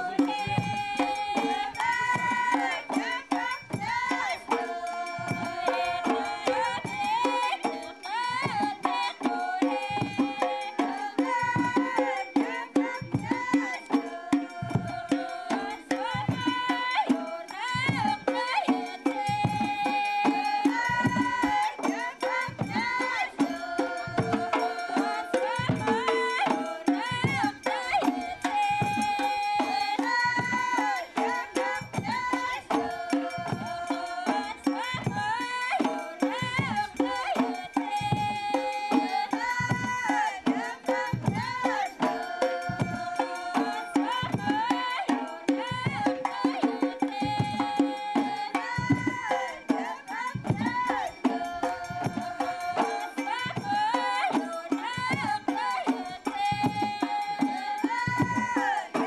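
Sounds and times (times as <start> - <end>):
hand-drum beat: 0.0 - 59.0.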